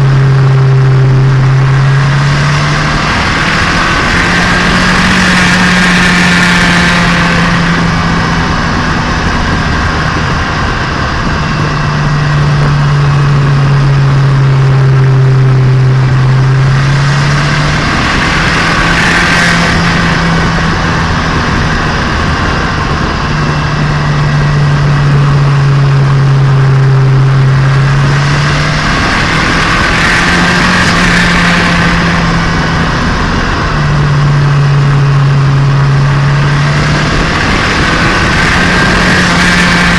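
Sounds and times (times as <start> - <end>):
car engine and exhaust: 0.0 - 39.9
road and wind noise: 0.0 - 39.9.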